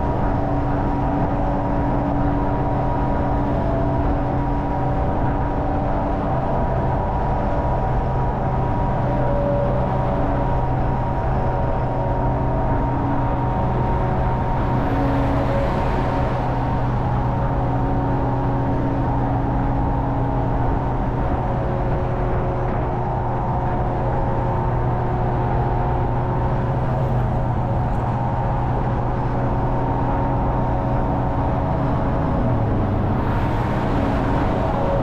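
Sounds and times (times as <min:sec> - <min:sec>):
engine and drivetrain drone: 0:00.0 - 0:35.0
road and wind noise: 0:00.0 - 0:35.0.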